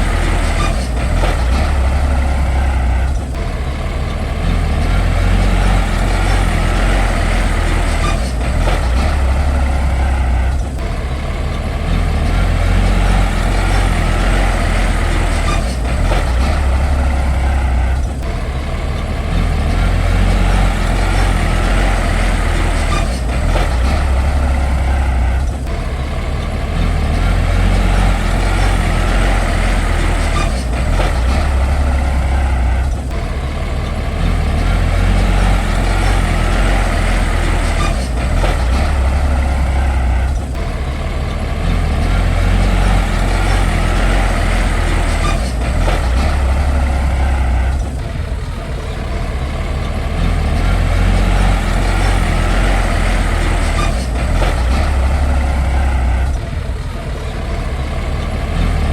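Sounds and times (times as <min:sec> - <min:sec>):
heavy diesel engine rumbling: 0:00.0 - 0:58.9.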